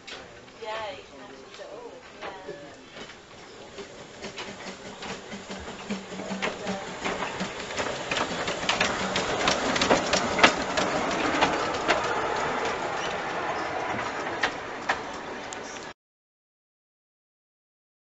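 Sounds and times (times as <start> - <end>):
steam train clattering past: 0.0 - 15.9.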